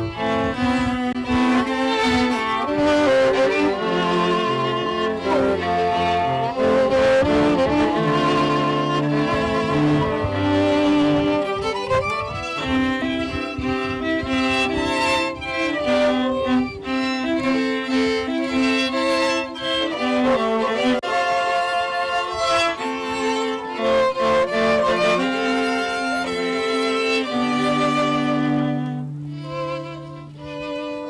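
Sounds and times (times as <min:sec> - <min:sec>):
violin and strings playing: 0:00.0 - 0:31.0.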